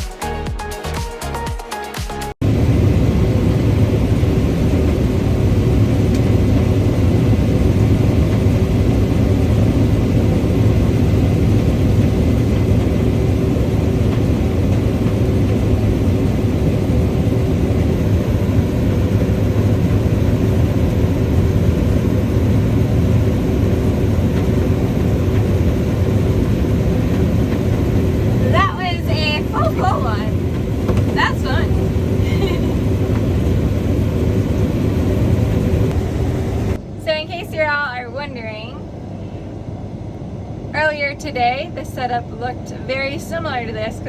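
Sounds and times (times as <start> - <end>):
diesel engine droning: 2.4 - 38.7.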